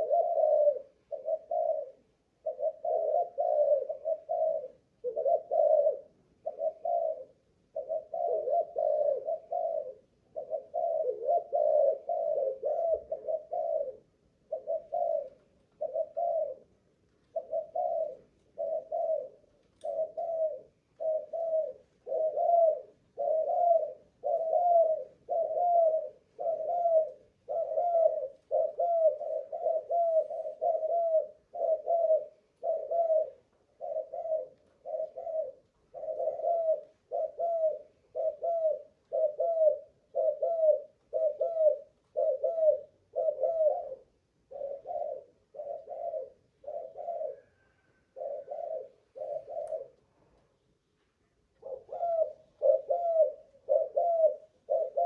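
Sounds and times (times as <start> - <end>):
dove cooing: 0.0 - 50.1, 51.4 - 55.0.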